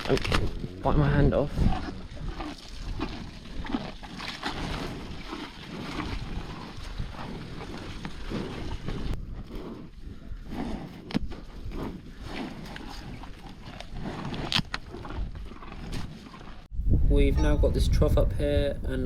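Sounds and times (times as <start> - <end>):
cows munching leaves: 0.0 - 0.7, 1.5 - 16.7
wind rumbling on microphone: 0.0 - 19.0.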